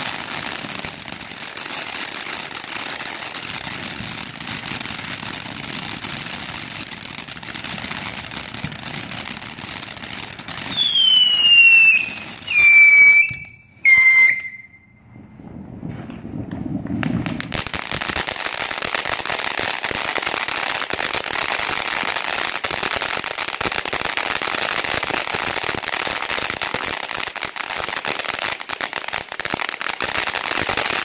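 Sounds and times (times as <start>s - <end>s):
firework hissing and crackling: 0.0s - 31.0s.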